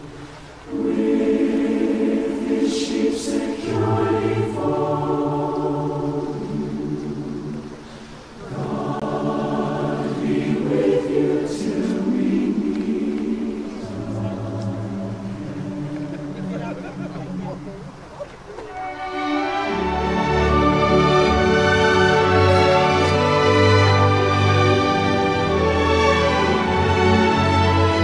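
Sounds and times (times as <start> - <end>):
choir singing in harmony: 0.0 - 18.1, 18.7 - 28.0.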